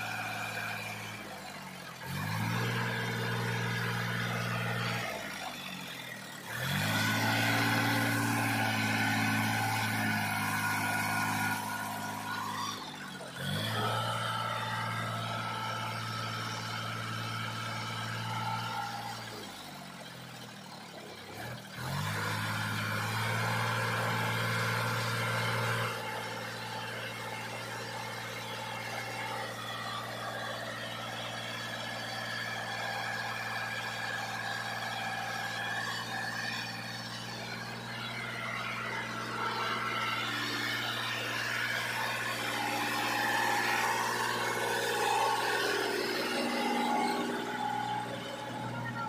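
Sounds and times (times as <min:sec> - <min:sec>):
tractor diesel engine revving: 0:00.0 - 0:49.0.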